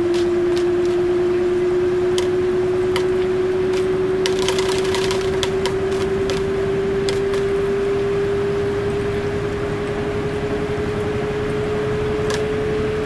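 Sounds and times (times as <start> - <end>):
rushing background: 0.0 - 13.0
washing machine motor whine: 0.0 - 13.0.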